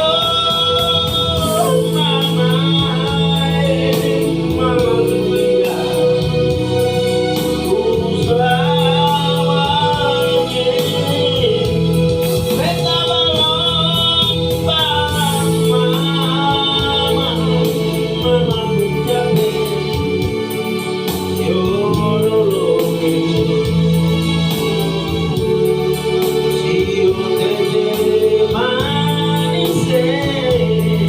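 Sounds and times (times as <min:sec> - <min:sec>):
gospel singing: 0:00.0 - 0:31.0
sustained organ accompaniment: 0:00.0 - 0:31.0.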